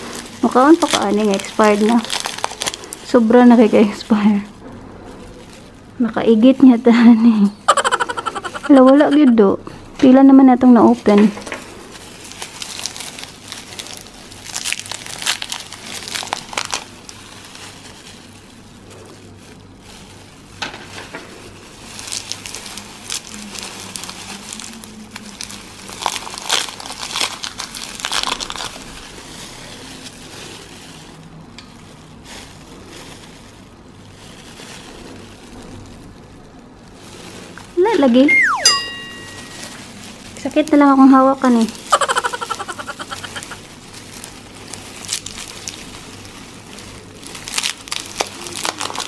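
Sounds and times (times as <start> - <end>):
plastic gloves and foil wrappers crinkling: 0.0 - 49.0.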